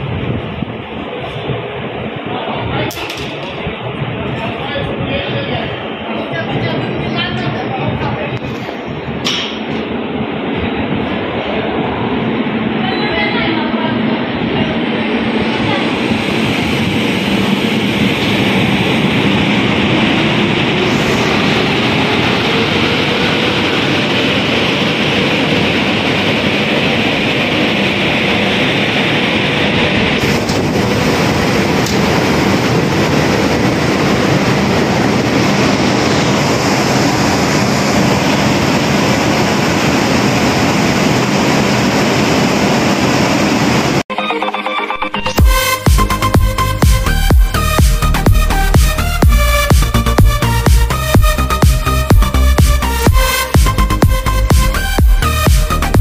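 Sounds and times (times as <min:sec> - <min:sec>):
electric locomotive running: 0:00.0 - 0:56.0
rising whine: 0:08.4 - 0:56.0.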